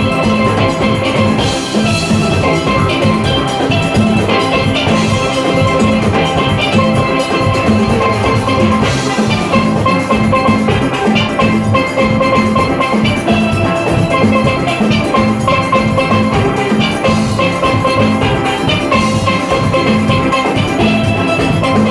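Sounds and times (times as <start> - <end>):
drums and percussion rhythm: 0.0 - 21.9
steelpans playing melody: 0.0 - 21.9.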